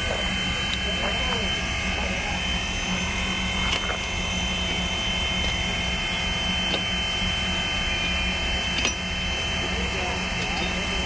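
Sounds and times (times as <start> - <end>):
high whine: 0.0 - 11.0
machine engine buzzing drone: 0.0 - 11.0.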